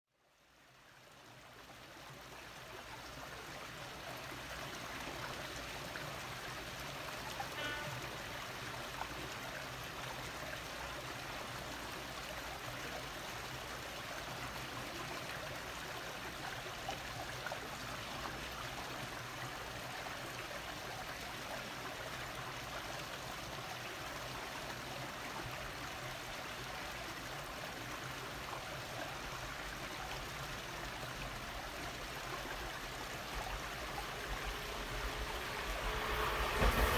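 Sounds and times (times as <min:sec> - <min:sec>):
running water rushing: 0:00.4 - 0:36.9.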